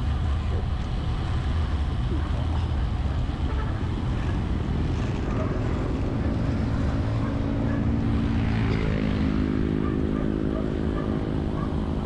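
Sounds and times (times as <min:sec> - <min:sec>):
vehicle engine running: 0:00.0 - 0:12.0
wind rumbling on microphone: 0:00.0 - 0:12.0.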